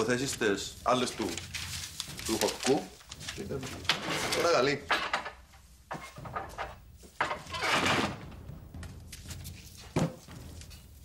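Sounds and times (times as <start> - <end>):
rustling noise: 0.0 - 4.8, 5.5 - 11.0.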